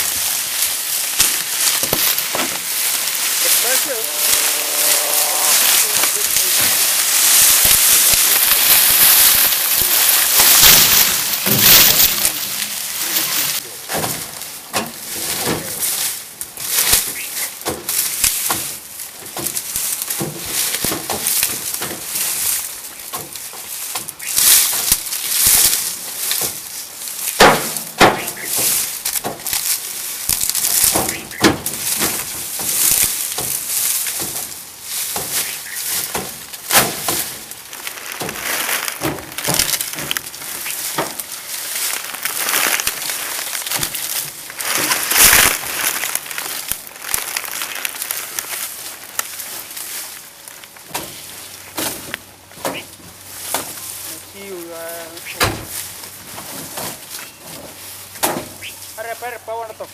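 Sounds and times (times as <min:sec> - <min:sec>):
dry sugarcane crackling and snapping: 0:00.0 - 0:59.9.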